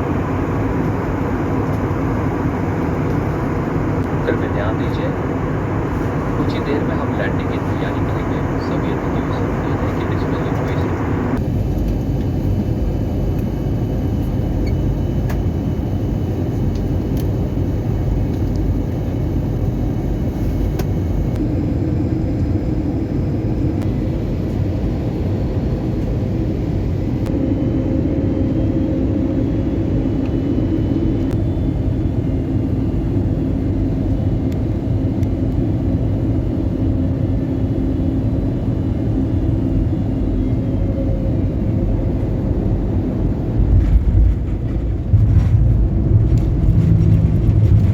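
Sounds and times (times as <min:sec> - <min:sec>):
jet engine and airflow rumble: 0:00.0 - 0:47.9
low hum: 0:00.0 - 0:47.9.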